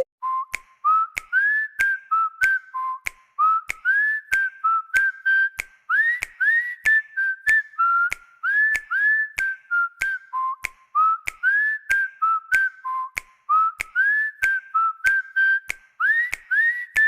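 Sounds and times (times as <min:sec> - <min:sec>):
whistled ringtone melody: 0:00.0 - 0:17.0.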